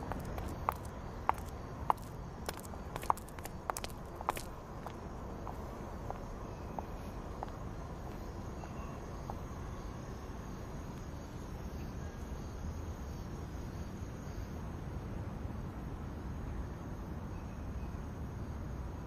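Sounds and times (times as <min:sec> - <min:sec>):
faint insect chirps: 0:00.0 - 0:19.0
low outdoor hiss: 0:00.0 - 0:19.0.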